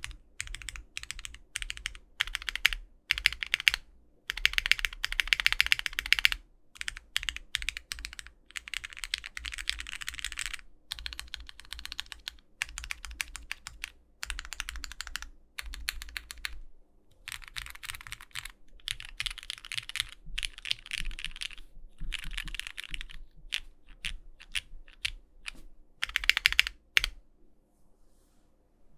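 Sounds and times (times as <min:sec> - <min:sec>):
mechanical keyboard typing: 0:00.0 - 0:16.6, 0:17.2 - 0:27.2.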